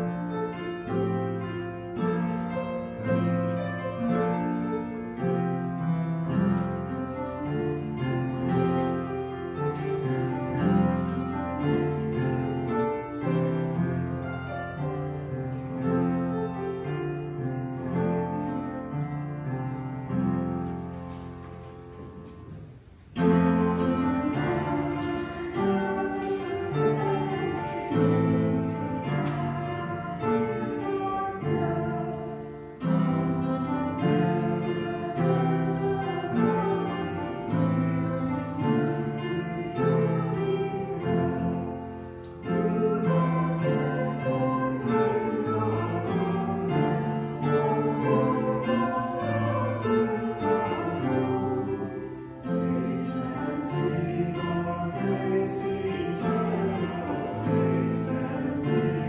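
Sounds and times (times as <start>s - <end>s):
congregation singing a hymn: 0.0s - 59.0s
instrumental accompaniment: 0.0s - 59.0s.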